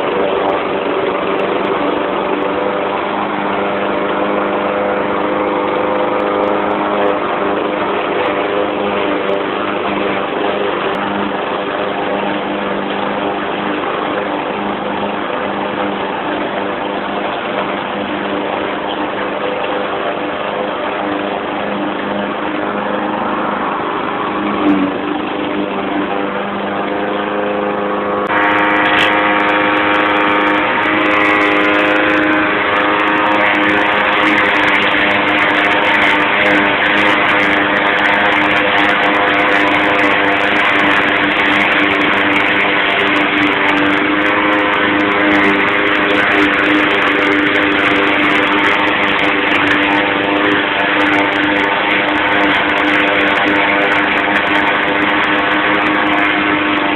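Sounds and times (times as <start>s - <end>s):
lawn mower engine running: 0.0s - 56.9s.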